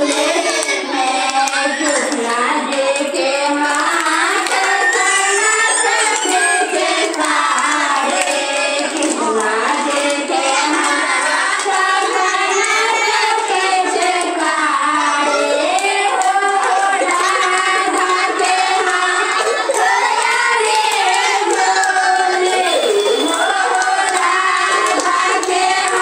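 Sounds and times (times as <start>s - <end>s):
hand clapping: 0.0s - 26.0s
women singing in unison: 0.0s - 26.0s.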